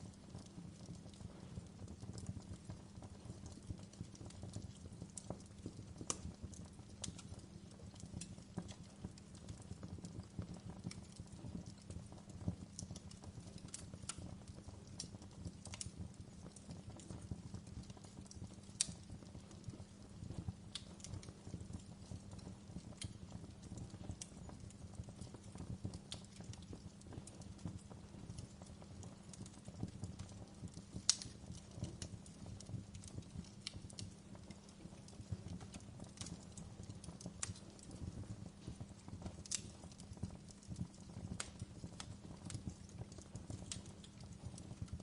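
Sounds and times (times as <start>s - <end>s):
fire pops and snaps: 0.0s - 45.0s
wood fire crackling: 0.0s - 45.0s.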